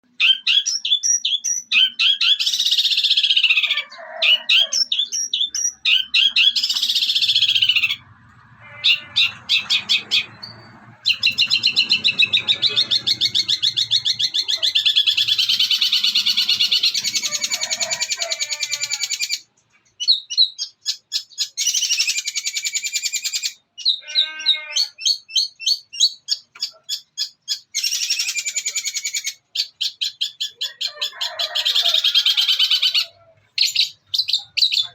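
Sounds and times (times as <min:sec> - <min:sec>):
bird singing rapid chattering notes: 0:00.2 - 0:03.6, 0:04.7 - 0:24.1, 0:24.8 - 0:30.6, 0:32.6 - 0:34.9.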